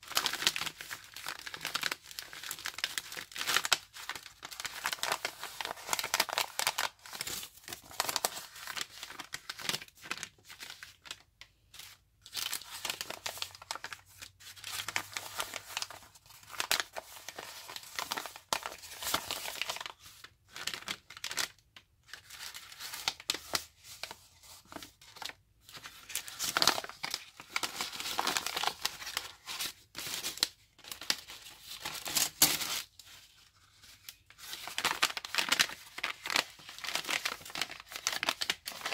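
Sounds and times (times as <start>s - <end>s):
paper envelopes crinkling: 0.0s - 38.9s.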